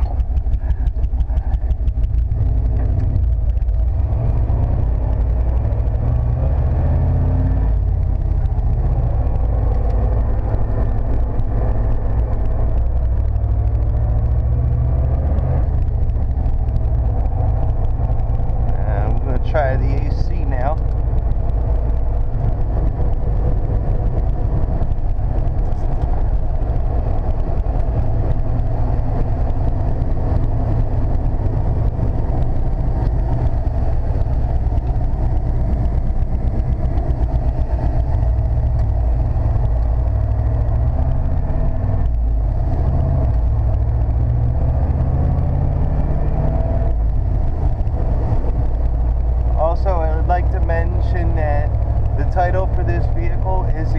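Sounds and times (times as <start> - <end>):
engine and road noise in cab: 0.0 - 53.9.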